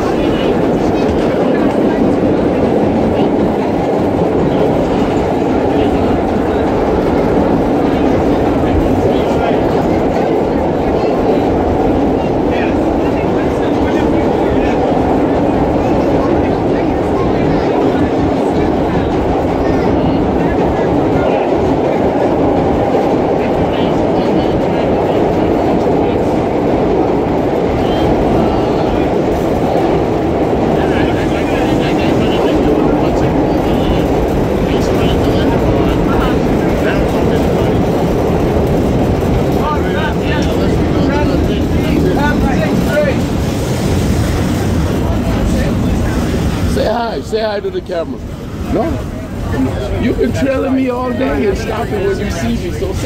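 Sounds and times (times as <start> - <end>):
subway train rumbling on track: 0.0 - 53.0.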